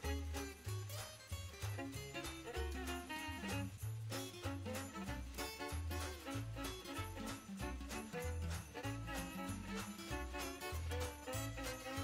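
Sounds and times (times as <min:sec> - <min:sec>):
lively tune with bass line: 0:00.0 - 0:12.0.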